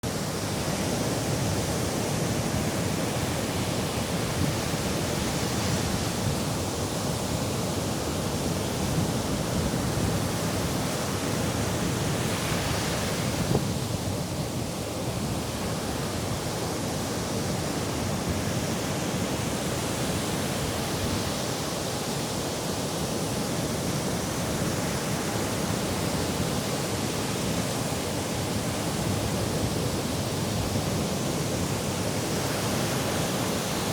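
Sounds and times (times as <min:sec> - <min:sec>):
sea surf washing: 0:00.0 - 0:33.9.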